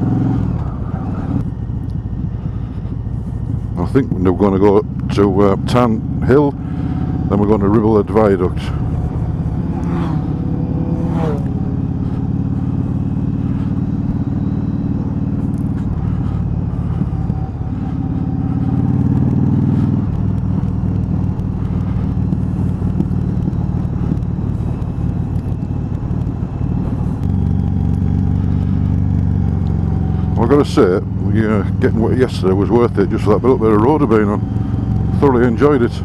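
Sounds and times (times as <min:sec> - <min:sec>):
wind noise: 0:00.0 - 0:30.3
motorcycle engine running: 0:00.0 - 0:36.0.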